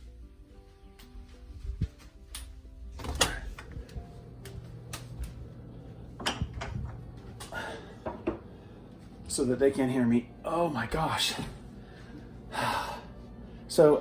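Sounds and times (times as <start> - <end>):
low steady hum: 1.0 - 14.0.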